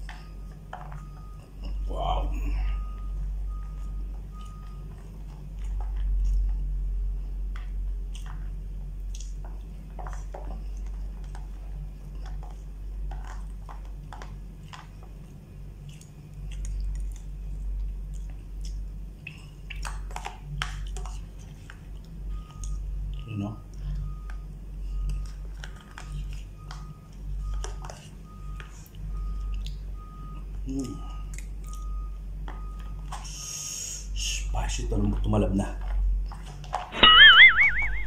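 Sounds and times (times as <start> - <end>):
steady low hum: 0.0 - 38.0
person chewing and smacking: 2.8 - 33.4.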